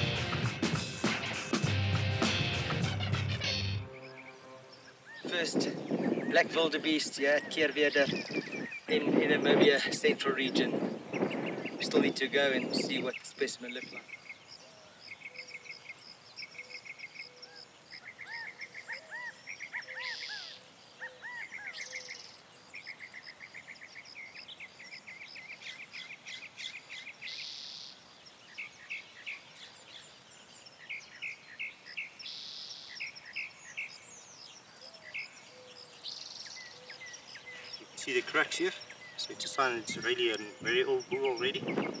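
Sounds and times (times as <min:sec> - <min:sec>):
birds chirping and whistling: 0:03.5 - 0:42.0.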